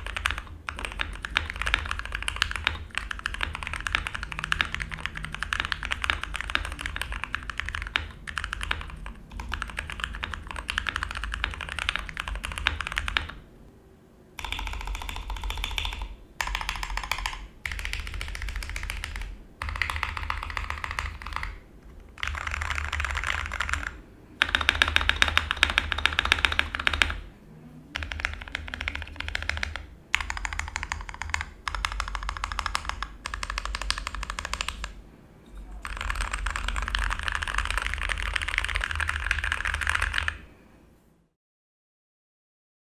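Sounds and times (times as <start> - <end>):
mechanical keyboard typing: 0.0 - 13.4, 14.4 - 27.3, 28.0 - 35.0, 35.7 - 40.4.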